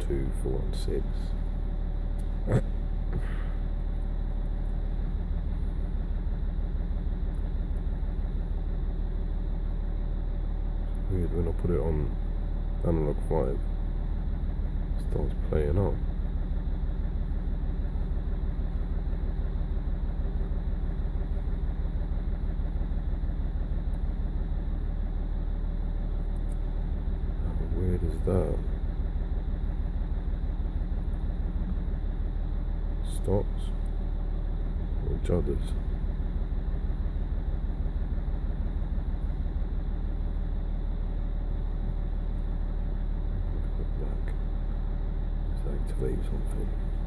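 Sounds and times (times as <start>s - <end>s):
diesel engine idling roughly: 0.0s - 47.0s.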